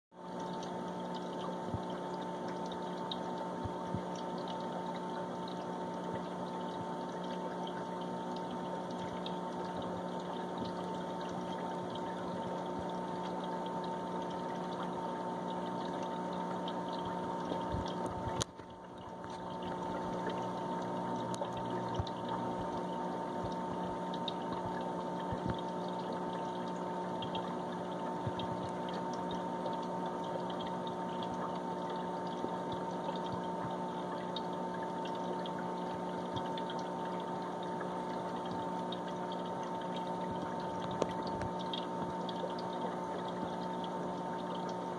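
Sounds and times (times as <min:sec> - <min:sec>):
pump hum with faint whine: 0:00.1 - 0:44.9
water trickling: 0:00.2 - 0:44.9.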